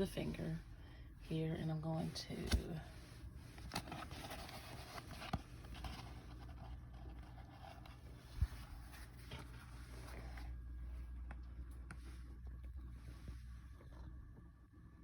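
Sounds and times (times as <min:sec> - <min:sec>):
rustling handling noise: 0:00.0 - 0:14.0.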